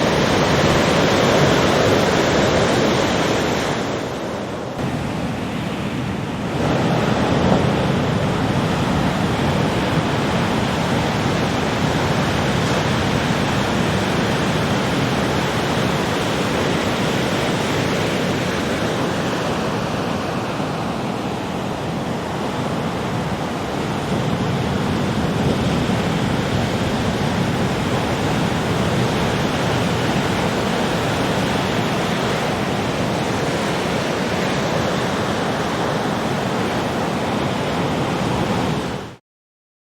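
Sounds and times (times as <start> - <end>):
ocean waves breaking: 0.0 - 39.2.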